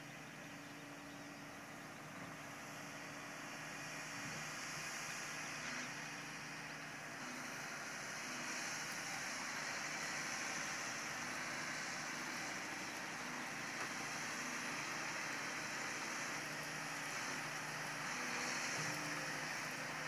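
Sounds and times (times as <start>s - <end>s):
distant tractor diesel engine: 0.0s - 20.0s.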